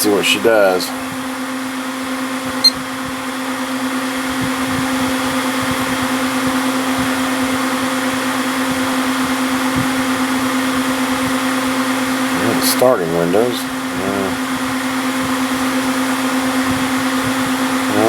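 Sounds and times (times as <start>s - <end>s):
computer fans and pump whirring: 0.0s - 18.0s.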